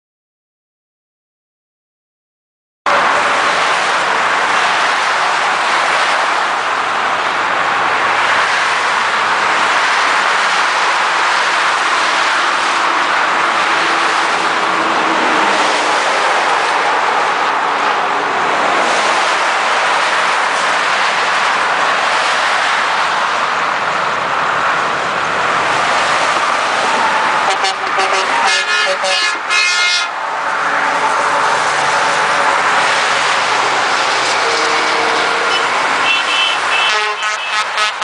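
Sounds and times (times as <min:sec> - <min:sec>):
highway traffic rushing: 0:02.9 - 0:38.0.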